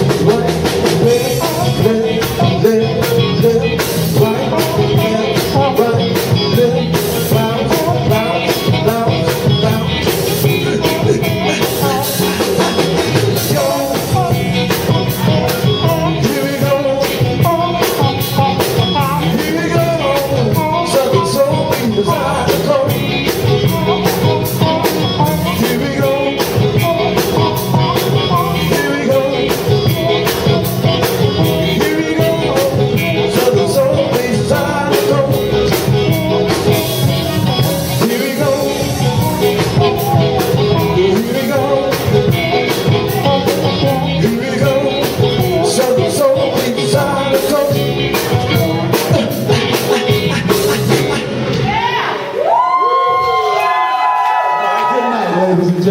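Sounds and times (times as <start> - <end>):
drum beat: 0.0 - 53.0
person singing: 0.0 - 53.6
electric guitar: 0.0 - 55.9
keyboards: 0.0 - 55.9.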